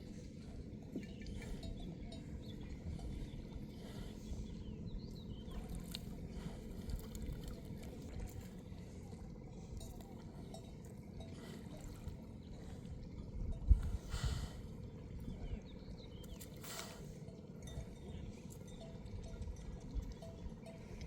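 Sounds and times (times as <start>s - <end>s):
water trickling and sloshing: 0.0s - 21.0s.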